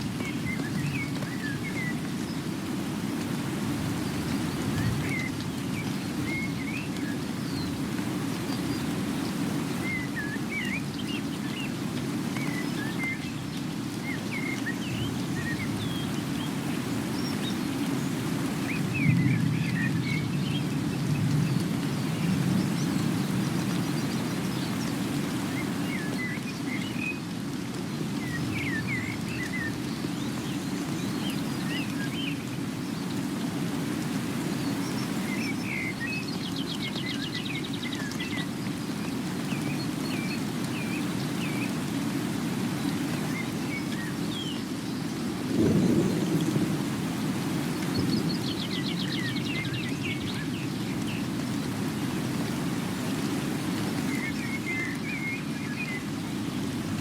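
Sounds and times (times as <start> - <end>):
birds chirping: 0.0 - 2.5, 4.1 - 27.3, 28.0 - 56.8
steady rain: 0.0 - 57.0.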